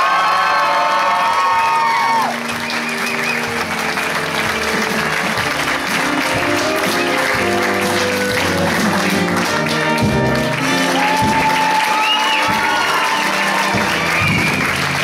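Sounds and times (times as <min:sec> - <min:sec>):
audience applauding: 0:00.0 - 0:15.0
curtain call music: 0:01.1 - 0:15.0.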